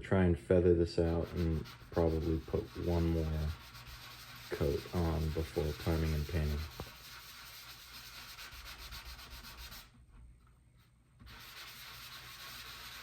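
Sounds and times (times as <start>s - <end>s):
hand sanding with sandpaper: 1.0s - 10.0s, 11.2s - 13.0s.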